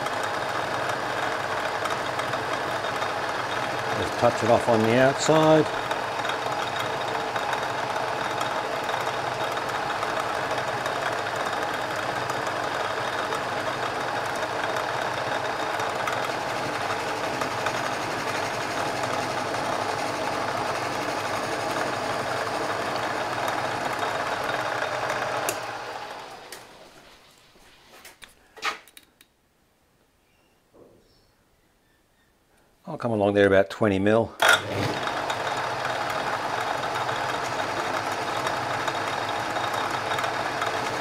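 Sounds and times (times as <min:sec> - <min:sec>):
metal lathe geared whir: 0:00.0 - 0:26.9, 0:34.4 - 0:41.0.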